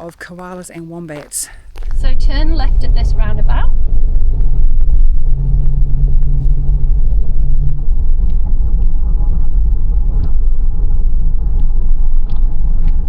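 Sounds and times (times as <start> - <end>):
engine and road rumble: 0.0 - 13.0
low hum: 1.5 - 13.0.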